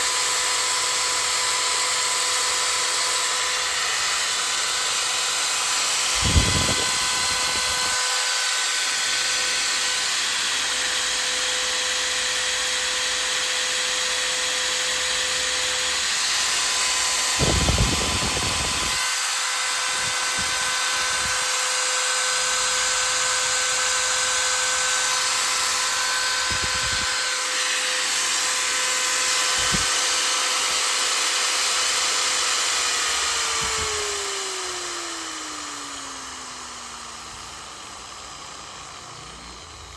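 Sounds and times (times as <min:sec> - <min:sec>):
electric drill whining: 0:00.0 - 0:39.9.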